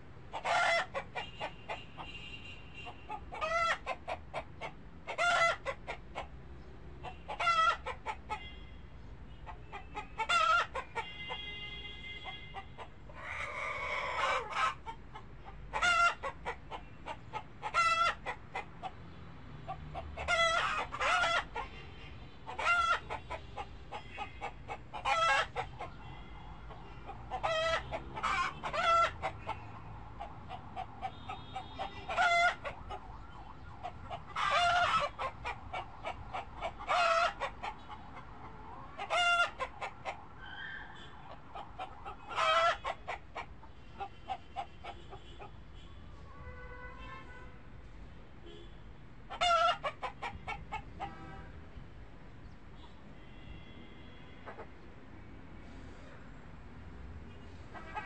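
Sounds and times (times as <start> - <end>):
chickens clucking and squawking: 0.0 - 2.2, 2.8 - 8.5, 9.3 - 11.4, 12.2 - 45.6, 49.2 - 51.4, 54.4 - 54.8, 57.3 - 58.0.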